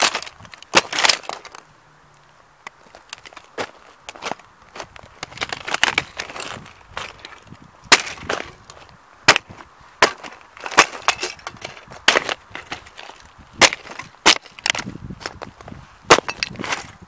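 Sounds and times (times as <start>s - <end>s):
grit crunching underfoot: 0.0s - 17.0s.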